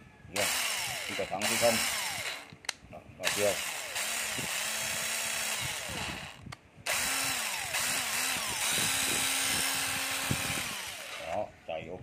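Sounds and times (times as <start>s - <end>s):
impact driver motor whirring: 0.4s - 11.5s.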